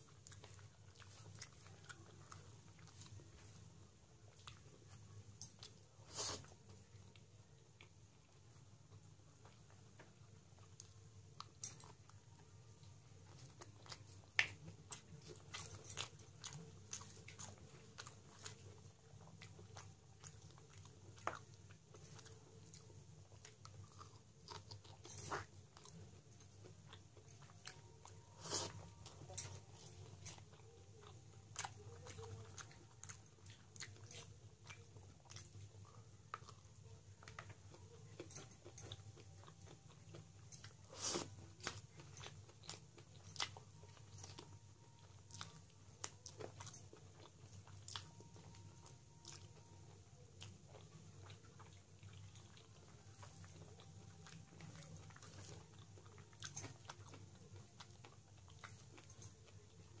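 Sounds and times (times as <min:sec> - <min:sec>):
man chewing with wet mouth smacks: 0:00.0 - 1:00.0.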